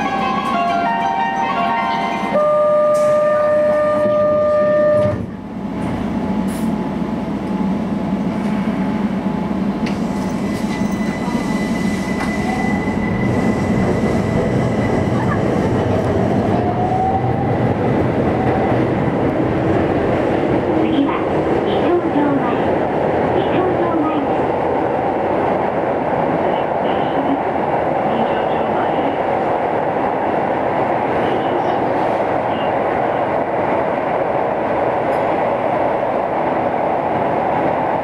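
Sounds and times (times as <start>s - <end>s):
train running rumble: 0.0s - 38.0s.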